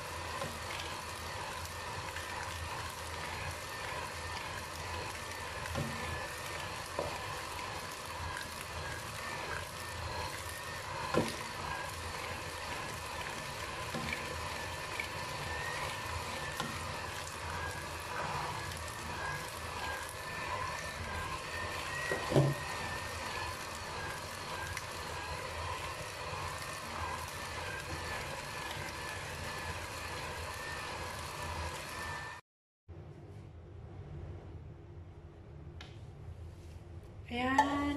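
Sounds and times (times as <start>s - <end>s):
electric hand mixer whine: 0.0s - 32.4s.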